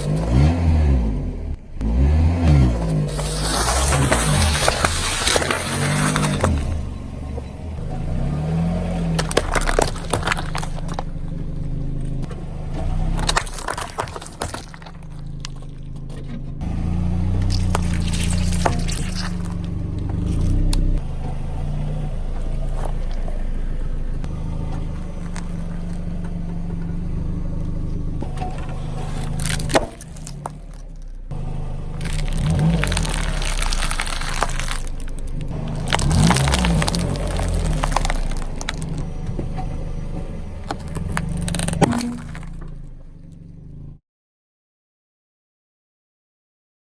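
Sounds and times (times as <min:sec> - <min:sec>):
snacks crunching under tyres: 0:00.0 - 0:43.9
car engine running low: 0:00.0 - 0:44.0.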